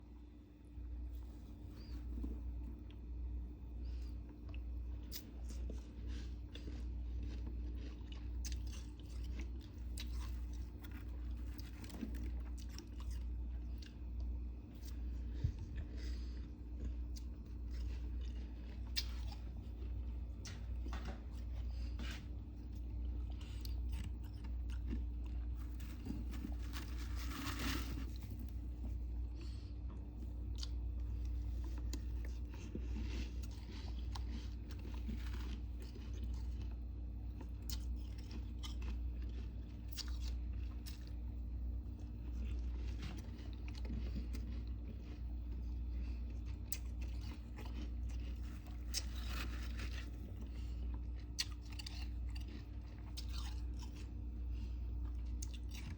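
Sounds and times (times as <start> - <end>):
person chewing crunchy frost: 0.0 - 55.9
steady low hum: 0.0 - 55.9.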